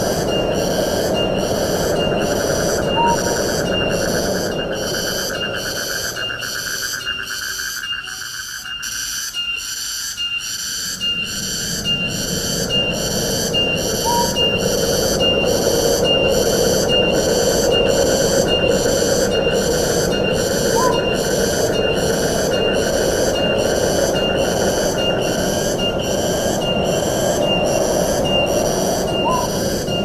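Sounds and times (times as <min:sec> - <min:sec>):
fine insect trill: 0:00.0 - 0:30.0
pulsing insect chorus: 0:00.0 - 0:30.0
wind rushing through trees: 0:00.0 - 0:30.0.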